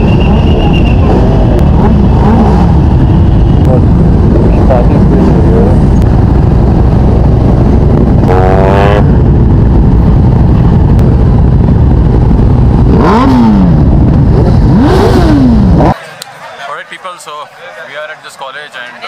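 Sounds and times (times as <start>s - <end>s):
motorcycle engines revving: 0.0s - 16.4s.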